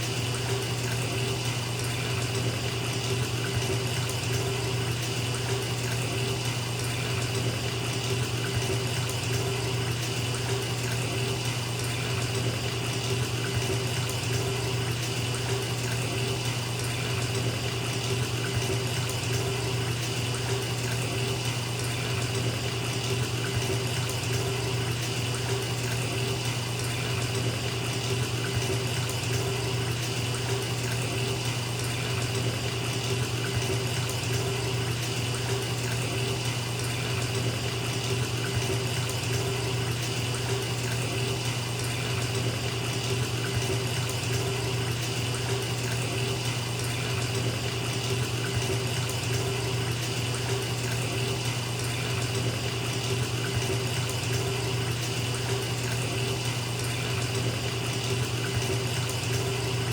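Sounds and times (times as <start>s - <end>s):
faucet water pouring into tub: 0.0s - 59.9s.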